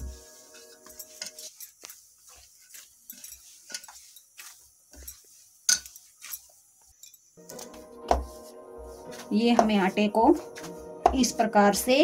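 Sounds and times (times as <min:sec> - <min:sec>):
hand kneading dough in steel bowl: 0:00.0 - 0:12.0.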